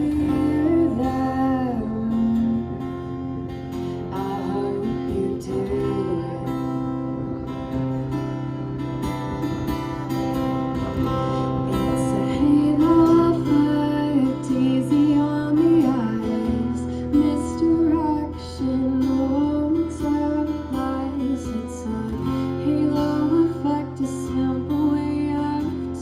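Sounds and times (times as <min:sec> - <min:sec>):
strummed guitar: 0:00.0 - 0:26.0.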